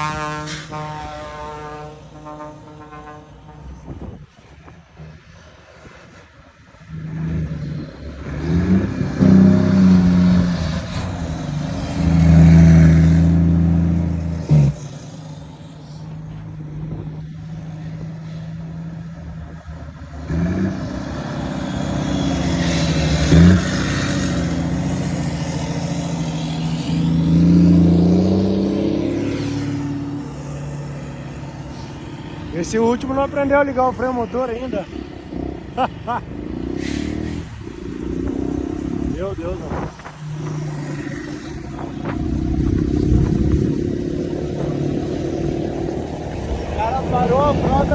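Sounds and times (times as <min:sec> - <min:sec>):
diesel engines rumbling: 0:00.0 - 0:47.9
trucks driving past: 0:00.0 - 0:47.9.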